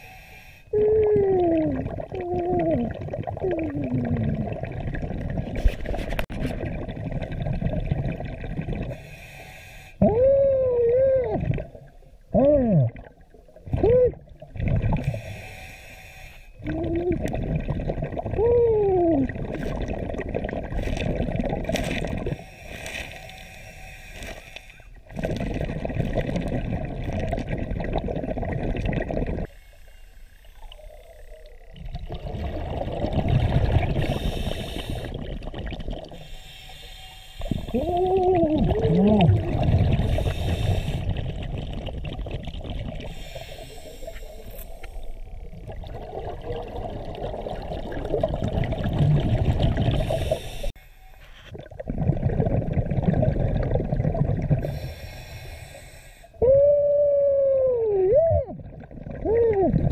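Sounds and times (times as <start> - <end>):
exhaled bubbles underwater: 0.7 - 9.1, 10.0 - 15.4, 16.6 - 22.4, 24.9 - 29.5, 30.6 - 36.6, 37.4 - 50.7, 51.5 - 55.2, 56.4 - 59.9.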